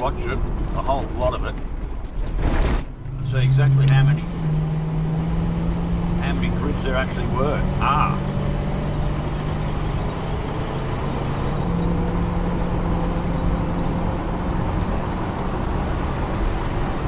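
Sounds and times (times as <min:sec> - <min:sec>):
car engine cruising: 0:00.0 - 0:17.0
tyre and road noise: 0:00.0 - 0:17.0.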